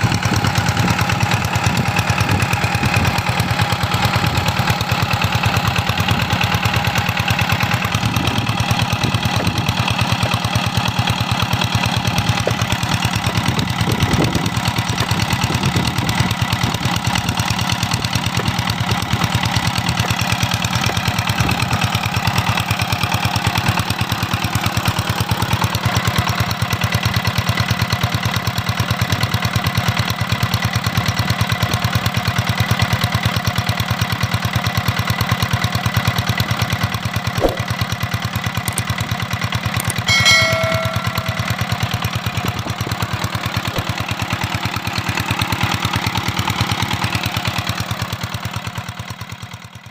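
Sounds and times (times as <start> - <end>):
diesel pump engine knocking: 0.0 - 49.9.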